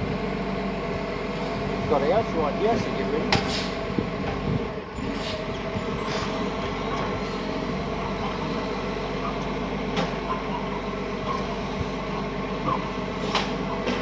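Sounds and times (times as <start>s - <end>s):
garbage truck engine running: 0.0s - 14.0s.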